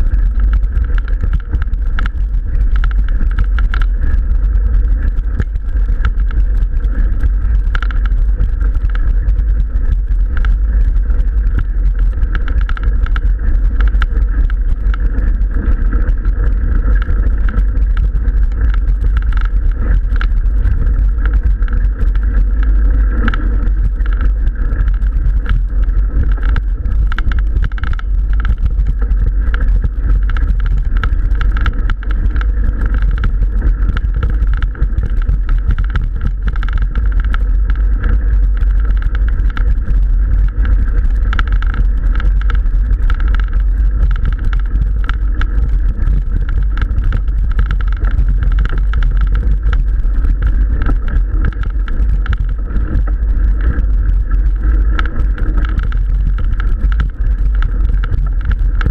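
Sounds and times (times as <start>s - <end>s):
bike rumble on gravel: 0.0s - 58.9s.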